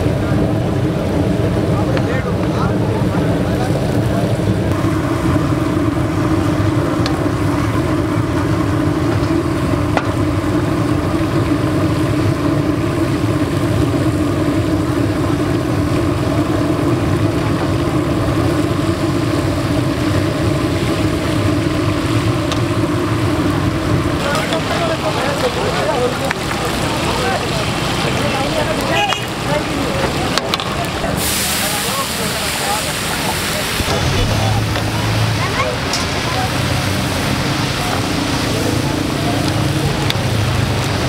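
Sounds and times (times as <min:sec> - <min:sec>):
gas burner roaring: 0:00.0 - 0:41.0
chillies sizzling in hot oil: 0:03.7 - 0:41.0.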